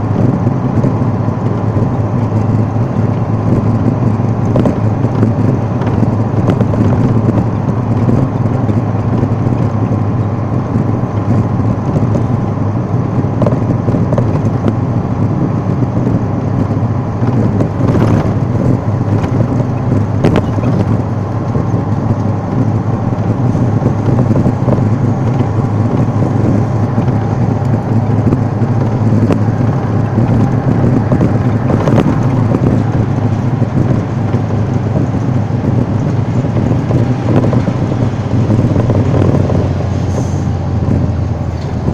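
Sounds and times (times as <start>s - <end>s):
road and engine rumble: 0.0s - 41.9s
traffic passing: 0.0s - 41.9s.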